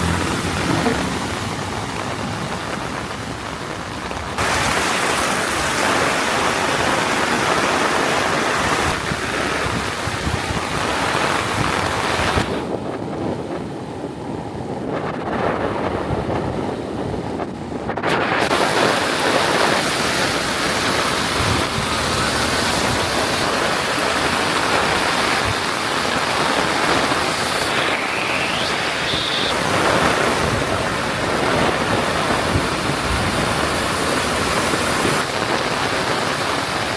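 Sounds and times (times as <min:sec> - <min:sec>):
heavy rain pouring: 0:00.0 - 0:12.8, 0:18.2 - 0:36.9.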